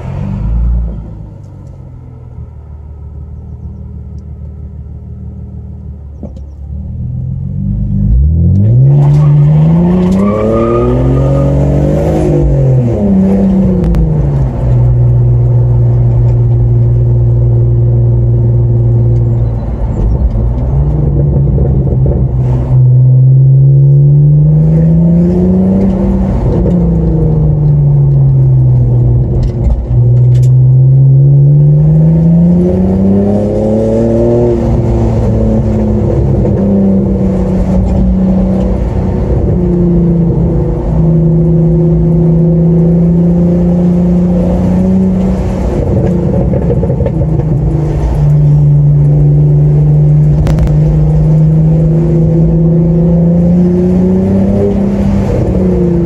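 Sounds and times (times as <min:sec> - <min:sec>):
car engine revving from inside cabin: 0:06.9 - 0:56.0.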